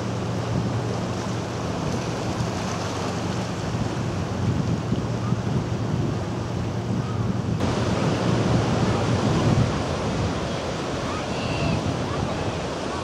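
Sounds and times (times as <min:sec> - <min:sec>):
faint motorboat engine hum: 0:00.0 - 0:13.0
sea waves: 0:00.0 - 0:13.0
surf washing around rocks: 0:00.0 - 0:13.0
wind buffeting microphone: 0:00.0 - 0:13.0.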